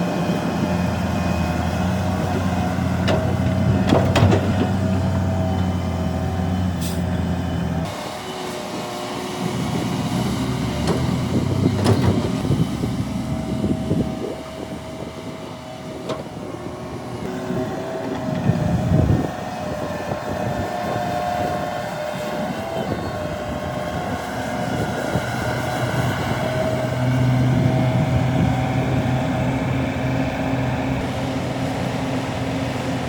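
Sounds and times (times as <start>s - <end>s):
deep engine drone: 0.0s - 33.0s
heavy diesel machinery running: 0.0s - 33.0s.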